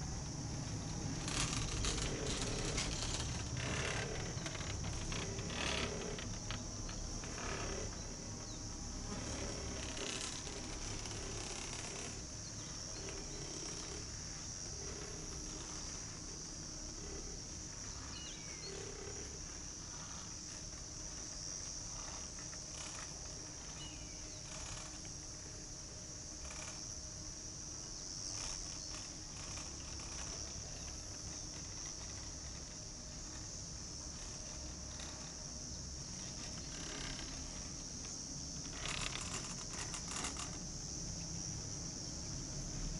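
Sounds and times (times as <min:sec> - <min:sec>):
insects chirping in grass: 0:00.0 - 0:42.9.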